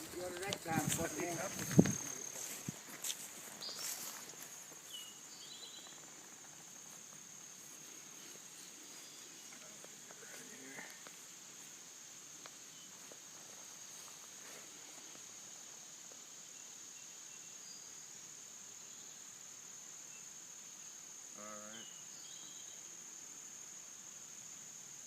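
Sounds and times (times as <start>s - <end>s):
insect chorus trilling: 0.0s - 25.0s.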